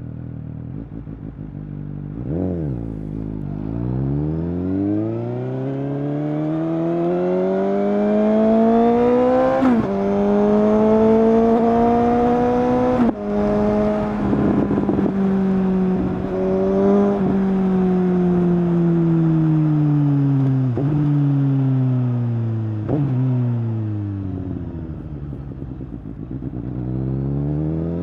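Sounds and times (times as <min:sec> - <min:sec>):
motorcycle engine accelerating hard: 0:00.0 - 0:28.0.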